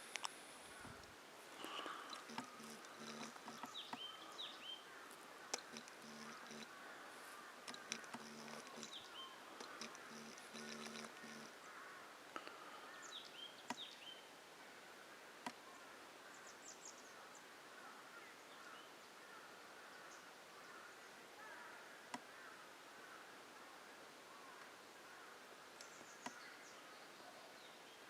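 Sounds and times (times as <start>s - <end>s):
small birds chirping: 0.1s - 14.4s, 15.4s - 28.0s.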